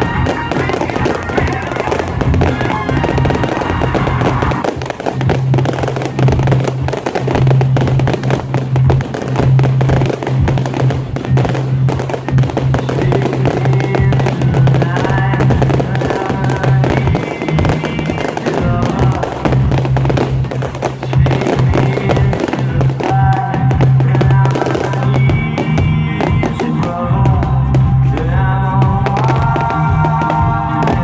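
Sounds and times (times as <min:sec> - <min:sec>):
fireworks exploding and crackling: 0:00.0 - 0:31.0
loud music with bass: 0:00.0 - 0:31.0.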